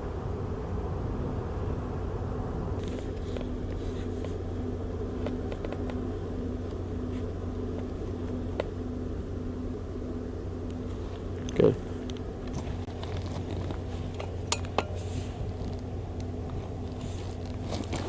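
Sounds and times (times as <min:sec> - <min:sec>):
faint pulsing tone: 0:00.0 - 0:18.0
low mechanical hum: 0:00.0 - 0:18.0.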